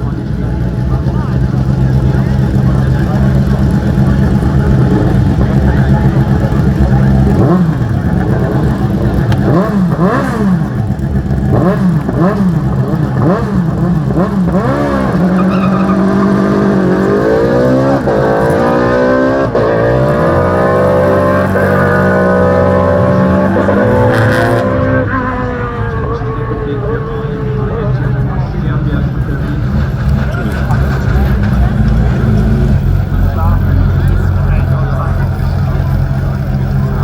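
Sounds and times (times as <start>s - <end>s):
race car engine at full throttle: 0.0s - 37.0s.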